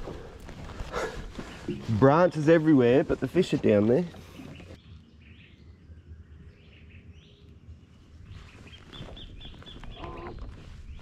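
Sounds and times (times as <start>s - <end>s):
birdsong: 0.0s - 11.0s.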